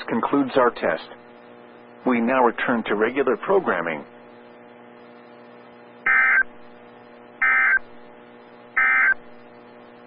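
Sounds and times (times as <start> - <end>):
faint radio hum: 0.0 - 10.0.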